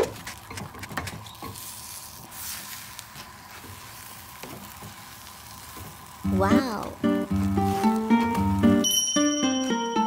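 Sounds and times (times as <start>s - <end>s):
pancake sizzling in a frying pan: 0.0s - 10.0s.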